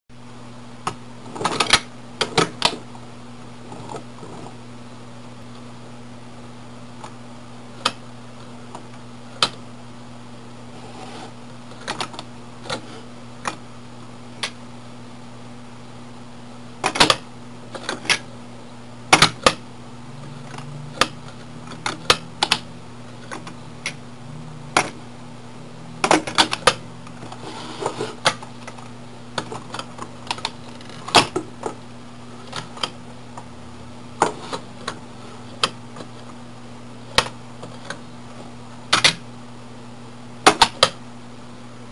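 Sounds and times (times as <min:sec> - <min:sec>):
steady low hum: 0:00.1 - 0:41.9.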